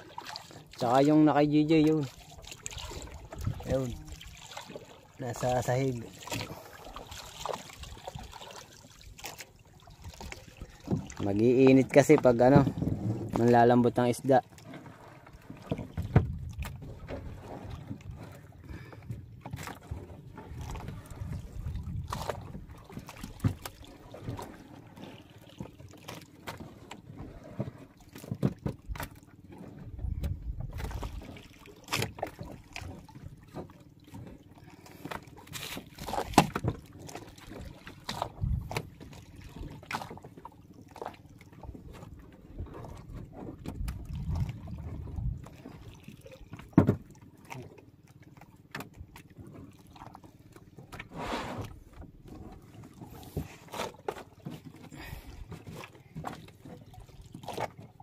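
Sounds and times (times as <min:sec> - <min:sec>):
water washing against hull: 0:00.0 - 0:58.0.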